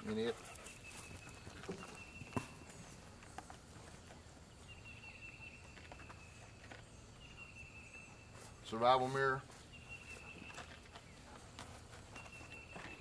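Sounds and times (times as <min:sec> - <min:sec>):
quiet outdoor background: 0:00.0 - 0:13.0.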